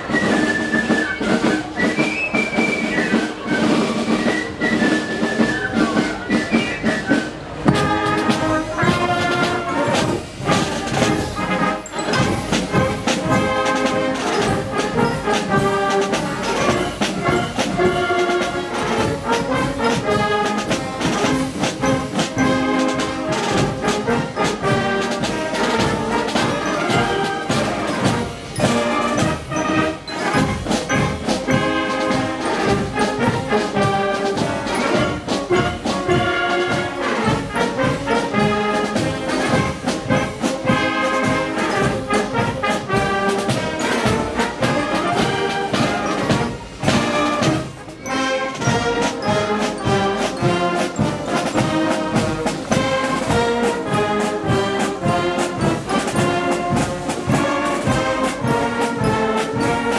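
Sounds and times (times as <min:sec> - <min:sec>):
wind band playing: 0:00.0 - 0:59.9
bass drum and snare beats: 0:07.4 - 0:47.9, 0:48.5 - 0:59.9.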